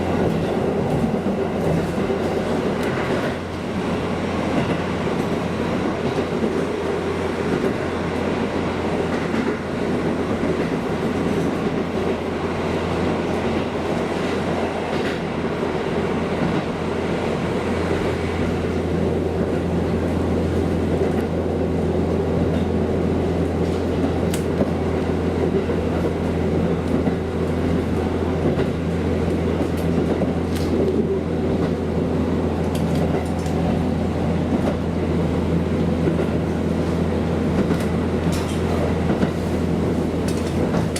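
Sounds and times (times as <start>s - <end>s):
diesel railcar engine drone: 0.0s - 40.9s
wheel and rail noise: 0.0s - 40.9s.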